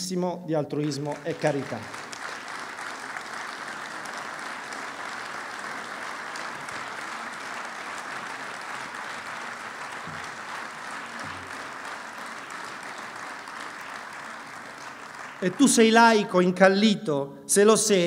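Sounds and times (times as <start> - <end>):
audience applauding: 0.9 - 16.5.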